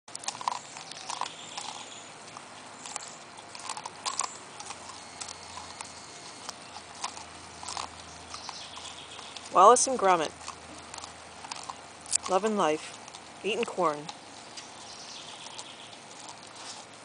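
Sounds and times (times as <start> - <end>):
dogs gnawing a corn cob: 0.0 - 17.0.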